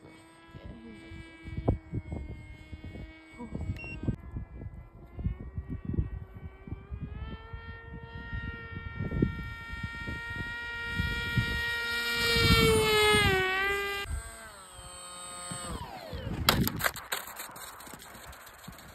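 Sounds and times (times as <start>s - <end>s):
model airplane motor whining: 0.0s - 18.9s
wind buffeting microphone: 0.6s - 18.9s.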